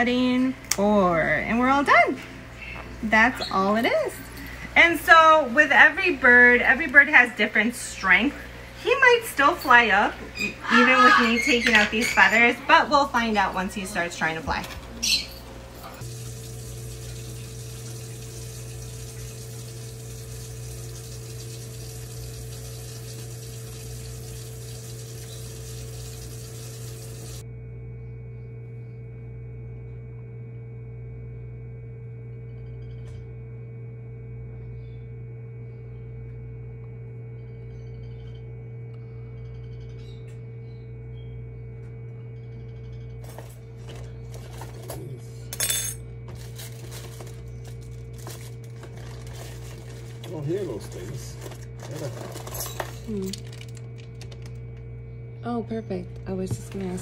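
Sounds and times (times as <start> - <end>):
incubator fan humming: 0.0 - 57.0.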